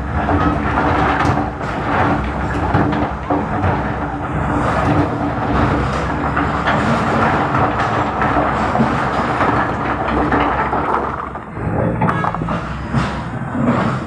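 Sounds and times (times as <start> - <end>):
backhoe diesel engine running: 0.0 - 14.0
metallic clanks: 0.0 - 14.0.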